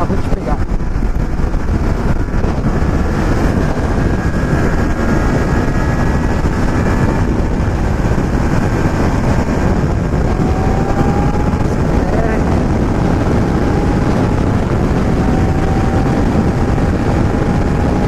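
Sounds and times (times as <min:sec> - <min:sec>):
faint whine: 0:00.0 - 0:18.0
motorcycle engine: 0:00.0 - 0:18.0
wind rushing on microphone: 0:00.0 - 0:18.0.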